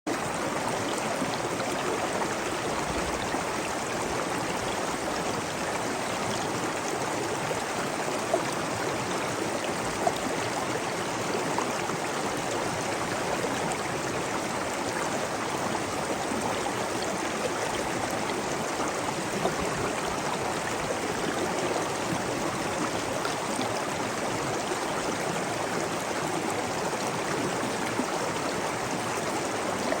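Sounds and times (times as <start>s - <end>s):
water rushing and gurgling: 0.1s - 30.0s.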